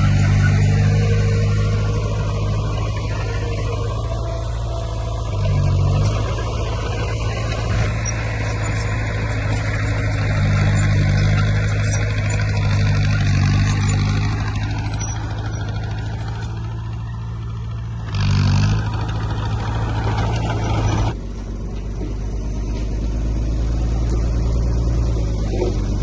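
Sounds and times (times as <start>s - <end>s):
diesel machinery engine drone: 0.0s - 26.0s.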